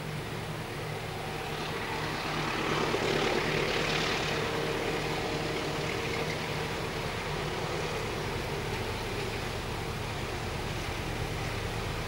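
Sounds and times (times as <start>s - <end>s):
engine hum: 0.0s - 12.0s.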